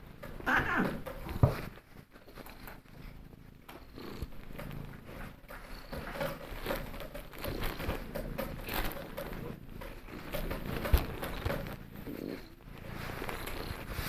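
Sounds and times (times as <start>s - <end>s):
cat purring: 0.0s - 14.0s
hand rustling over fur: 1.3s - 14.0s.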